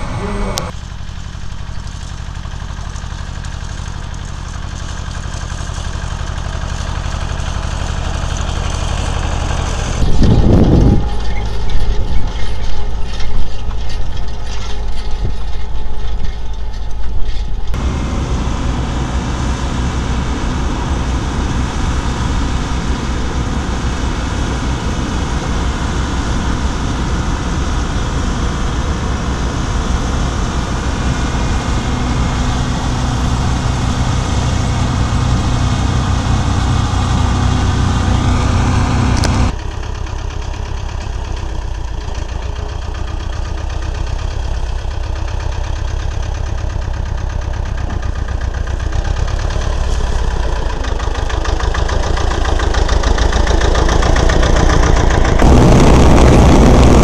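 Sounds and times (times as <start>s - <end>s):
tractor with harrow knocking: 0.0s - 56.8s
combine harvester running: 0.0s - 57.0s
tractor engine drone: 0.0s - 57.0s.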